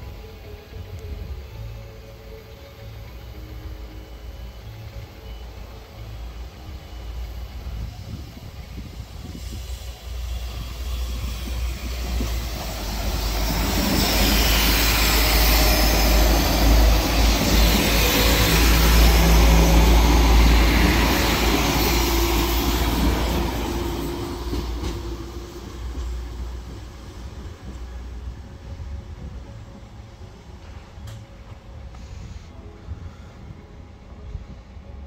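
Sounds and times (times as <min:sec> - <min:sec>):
wheels on rail: 0:00.0 - 0:33.5
diesel train engine: 0:00.0 - 0:35.0.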